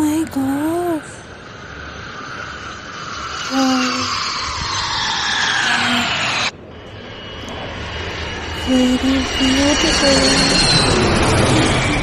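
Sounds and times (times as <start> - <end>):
jet aircraft passing overhead: 0.0 - 12.0.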